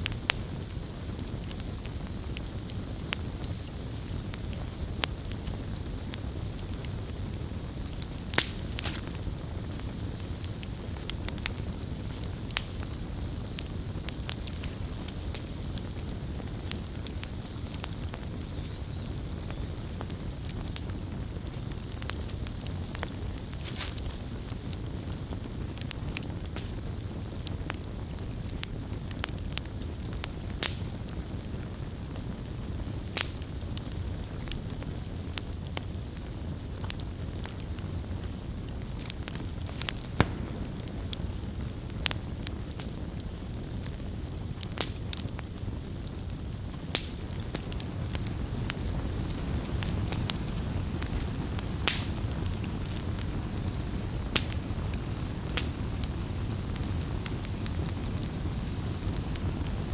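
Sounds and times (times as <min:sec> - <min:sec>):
campfire crackling and popping: 0:00.0 - 0:59.9
low rumble of burning: 0:00.0 - 0:59.9.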